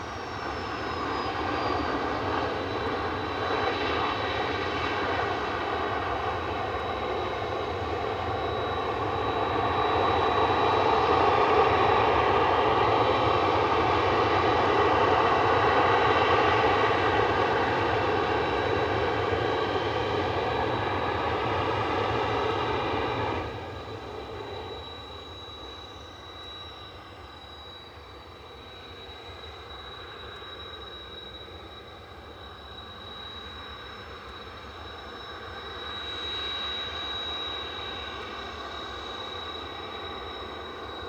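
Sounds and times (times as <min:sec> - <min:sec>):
jet engine whine: 0:00.0 - 0:41.0.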